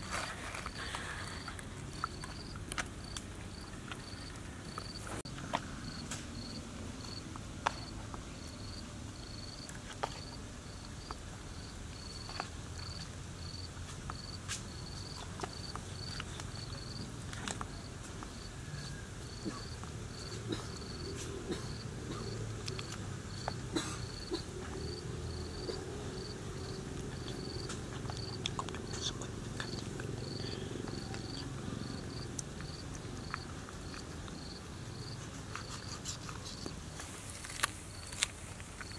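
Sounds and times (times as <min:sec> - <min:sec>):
insect chirping: 0:00.1 - 0:17.0, 0:21.7 - 0:38.9.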